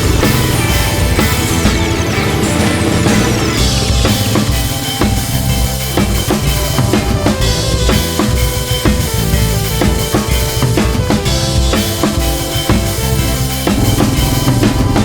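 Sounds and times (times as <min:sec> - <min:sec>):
background music: 0:00.0 - 0:15.0
bass notes: 0:00.0 - 0:15.0
drum kit beat: 0:00.0 - 0:15.0.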